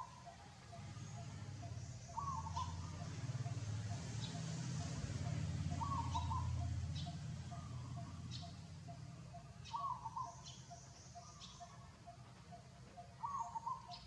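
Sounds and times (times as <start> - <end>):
bird calling: 0.0 - 0.4, 1.0 - 14.0.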